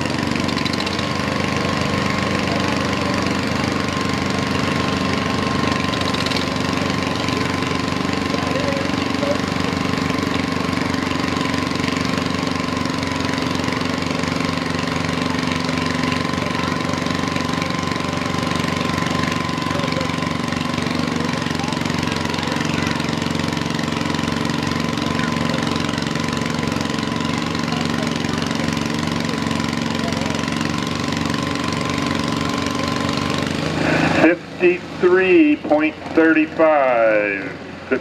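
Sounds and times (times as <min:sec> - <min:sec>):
thin steady whine: 0:00.0 - 0:38.0
tractor engine idling: 0:00.0 - 0:38.0.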